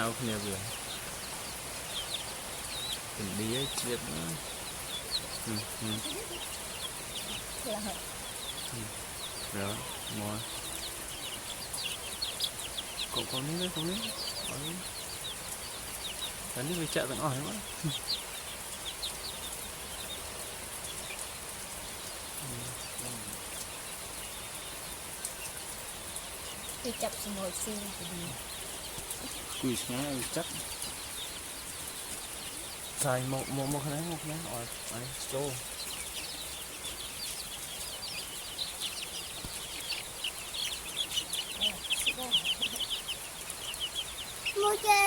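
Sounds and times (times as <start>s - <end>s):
chicks peeping: 0.0s - 45.0s.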